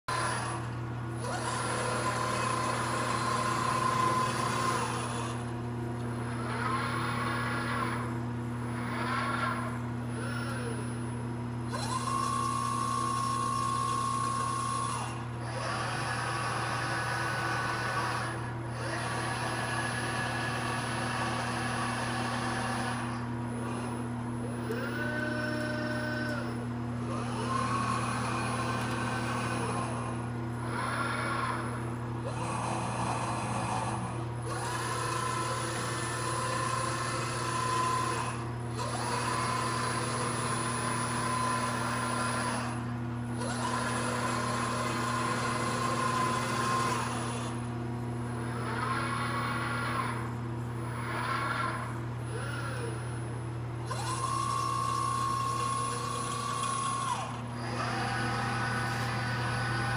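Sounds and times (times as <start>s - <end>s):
constant electrical hum: 0.1s - 59.9s
robot servo motors whining: 0.1s - 59.9s.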